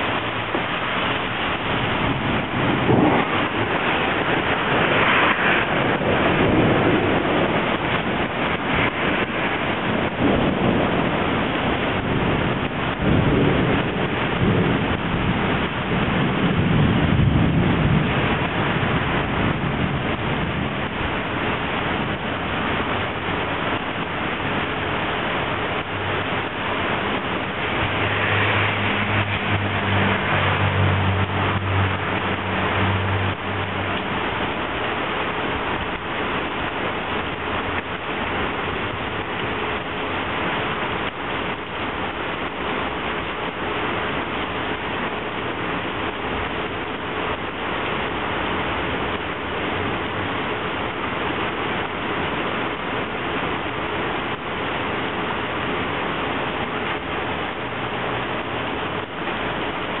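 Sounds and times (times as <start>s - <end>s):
heavy rain pouring: 0.0s - 60.0s
low rumbles: 0.0s - 60.0s.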